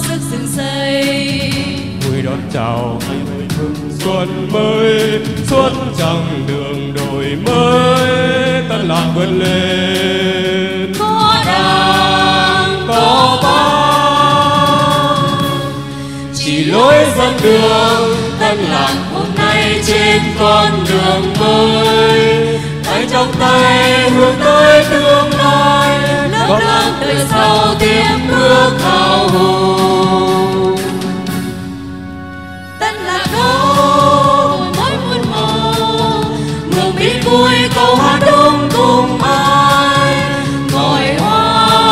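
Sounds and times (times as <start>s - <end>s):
group singing long notes: 0.0s - 31.6s, 32.8s - 41.9s
musical accompaniment: 0.0s - 41.9s
percussion strikes: 0.0s - 41.9s.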